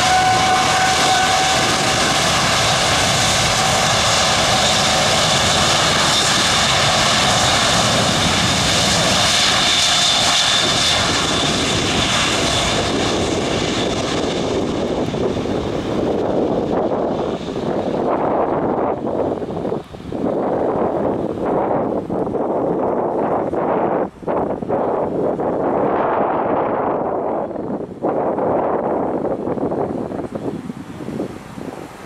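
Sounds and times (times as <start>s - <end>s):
jet engine rushing: 0.0s - 32.0s
jet engine whine: 0.0s - 32.0s.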